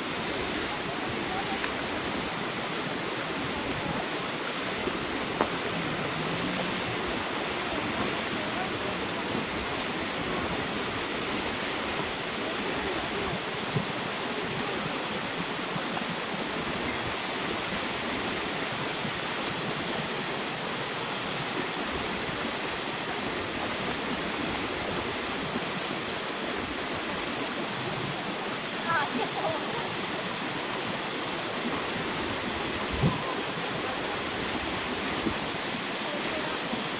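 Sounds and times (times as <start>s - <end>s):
waterfall rushing and splashing: 0.0s - 36.9s.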